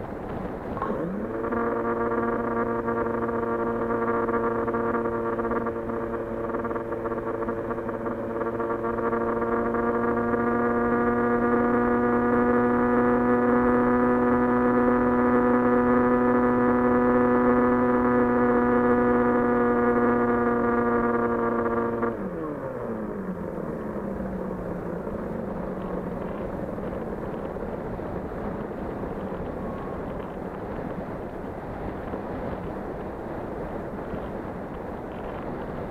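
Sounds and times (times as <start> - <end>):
propeller winding down: 0.0 - 35.9.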